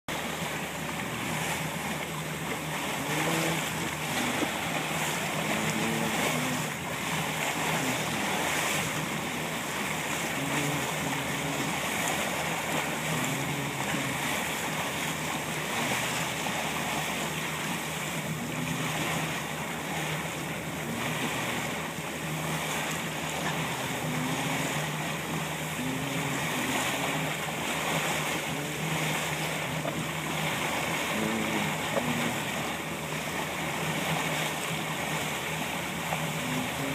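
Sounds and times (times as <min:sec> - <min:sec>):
boat engine hum: 0:00.0 - 0:36.9
water rushing along hull: 0:00.0 - 0:36.9.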